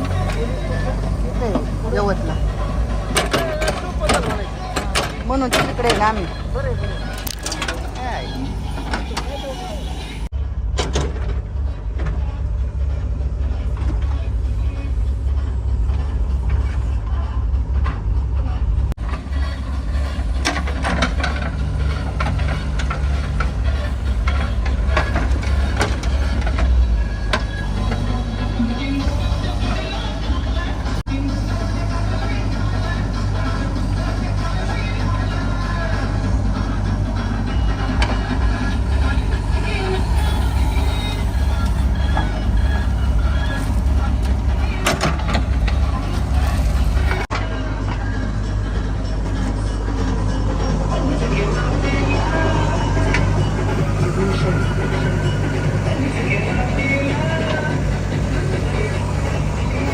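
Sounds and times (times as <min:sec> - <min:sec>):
heavy machinery low rumble: 0:00.0 - 0:59.9.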